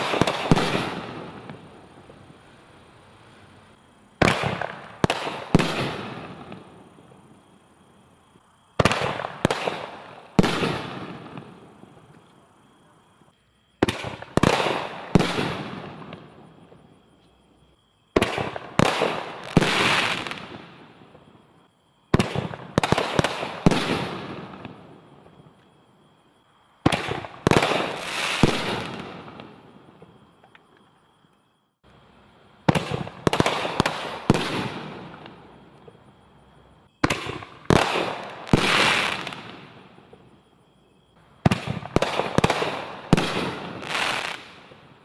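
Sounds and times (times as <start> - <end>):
crackling hiss: 0.0 - 45.0.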